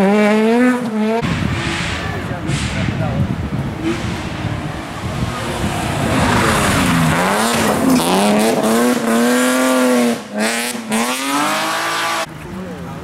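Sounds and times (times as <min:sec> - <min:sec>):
rally car accelerating: 0:00.0 - 0:13.0.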